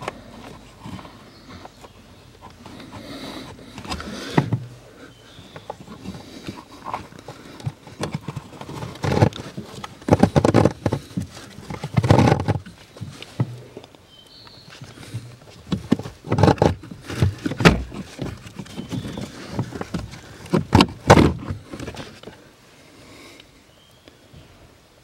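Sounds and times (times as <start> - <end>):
plastic scraping and knocking: 0.0 - 13.9, 14.7 - 22.4.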